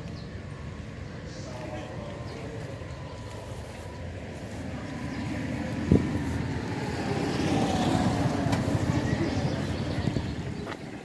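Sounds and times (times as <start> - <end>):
vehicle passing at low speed: 0.4 - 11.0.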